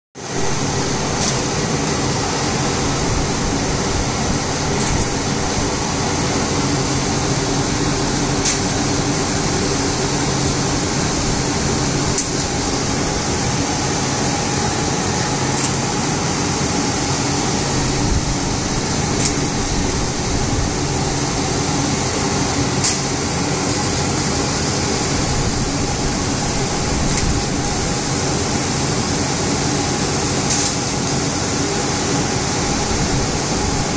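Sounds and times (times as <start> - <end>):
laser cutter humming and hissing: 0.2 - 33.9.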